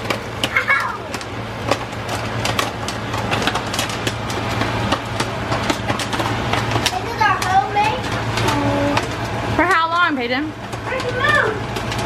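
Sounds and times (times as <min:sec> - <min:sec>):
popcorn kernels popping: 0:00.0 - 0:12.0
range hood fan humming: 0:00.0 - 0:12.0.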